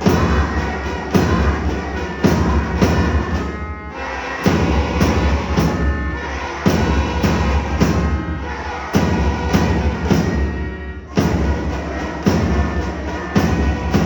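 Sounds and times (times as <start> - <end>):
heavy drum hits: 0.0 - 3.6, 4.4 - 14.0
sustained instrumental tones: 0.0 - 14.0.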